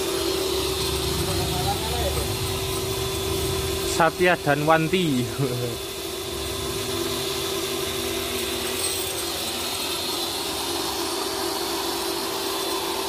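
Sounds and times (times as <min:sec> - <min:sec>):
pressure washer running: 0:00.0 - 0:13.0.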